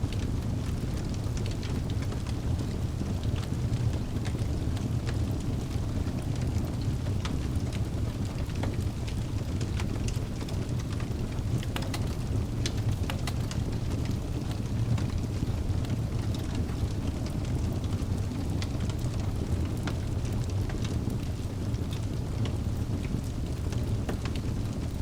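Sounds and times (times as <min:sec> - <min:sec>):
low rumble of flames: 0:00.0 - 0:25.0
crackles and pops of burning logs: 0:00.1 - 0:25.0.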